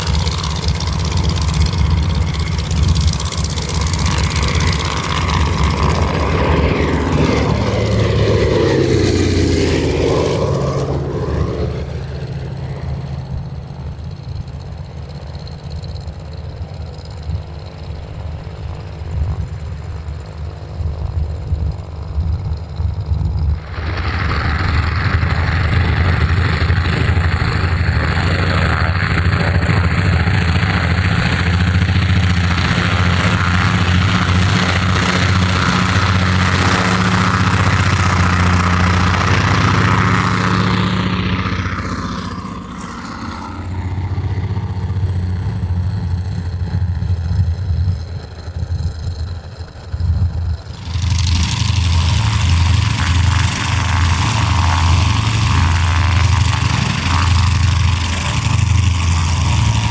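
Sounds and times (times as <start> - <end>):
twin radial aircraft engines running: 0.0 - 59.9.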